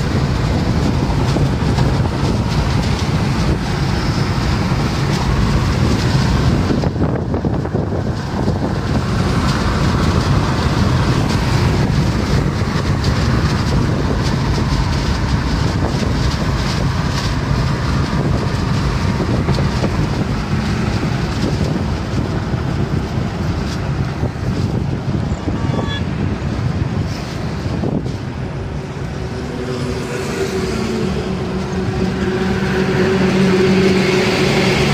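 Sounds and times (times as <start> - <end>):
car cabin road noise: 0.0 - 34.9.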